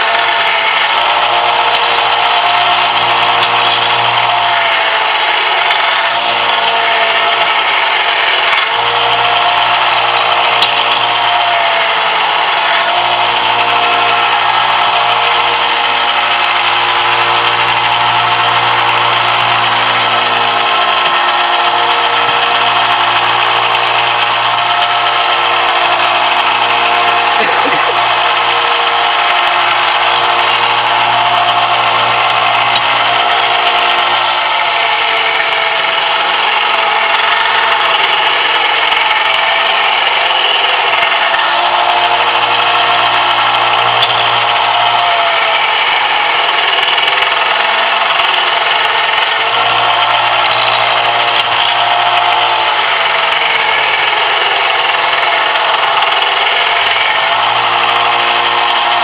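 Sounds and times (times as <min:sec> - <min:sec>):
electric power tool running: 0:00.0 - 0:59.0.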